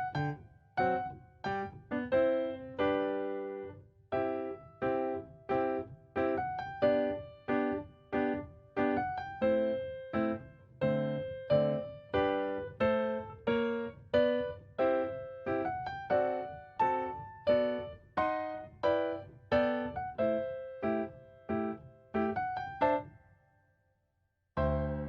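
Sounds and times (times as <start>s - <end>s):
gentle piano melody: 0.0s - 23.2s, 24.6s - 25.0s.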